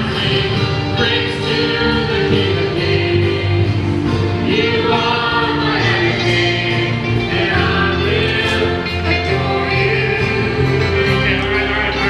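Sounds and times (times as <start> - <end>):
choir singing long held notes: 0.0 - 12.0
musical accompaniment: 0.0 - 12.0.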